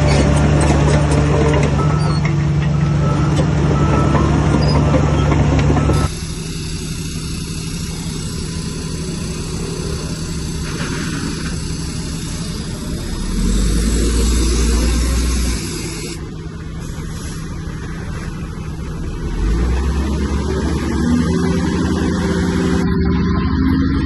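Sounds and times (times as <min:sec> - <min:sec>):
bulldozer diesel engine running: 0:00.0 - 0:24.0
deep engine rumble: 0:00.0 - 0:24.0.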